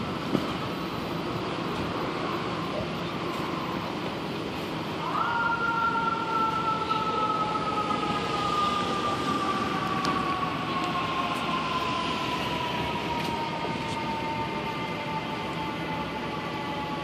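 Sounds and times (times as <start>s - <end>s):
city street traffic: 0.0s - 17.0s
fire engine siren falling tone: 0.0s - 17.0s.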